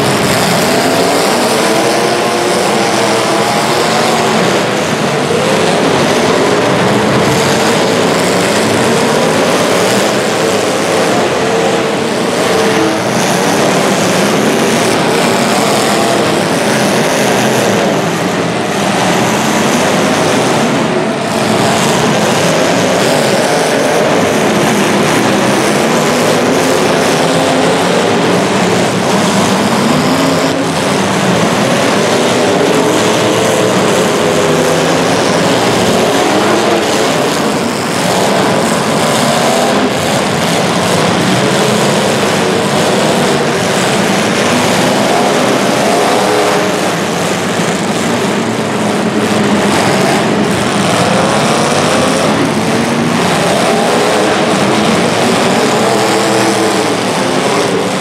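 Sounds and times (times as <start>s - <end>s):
racing engines revving: 0.0s - 58.0s.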